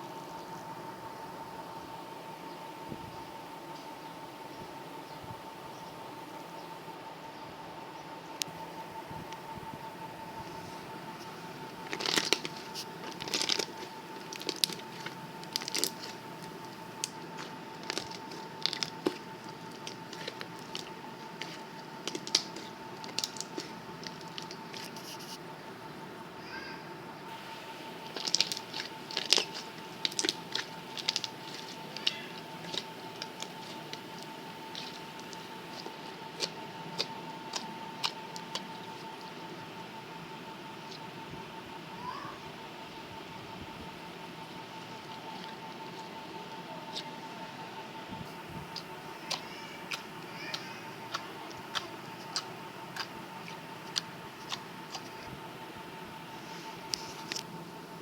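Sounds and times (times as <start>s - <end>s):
faint hum: 0.0s - 58.0s
faint steady whine: 0.0s - 58.0s.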